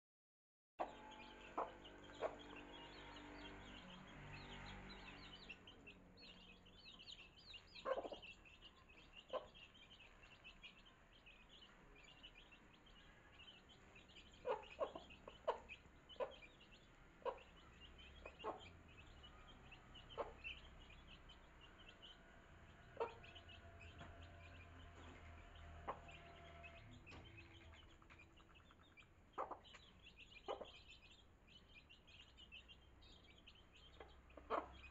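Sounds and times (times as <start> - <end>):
chicks peeping: 0.8 - 34.9.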